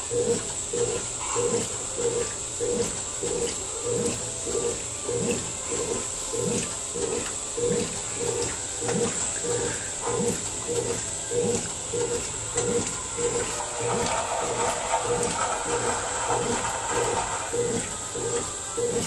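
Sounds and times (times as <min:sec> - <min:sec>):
motor hum: 0:00.0 - 0:19.0
washing machine churning: 0:00.0 - 0:19.0.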